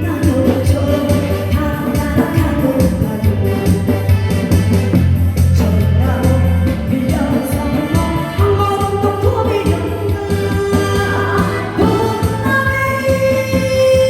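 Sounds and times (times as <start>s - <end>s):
backing track with bass: 0.0s - 14.0s
woman singing: 0.0s - 14.0s.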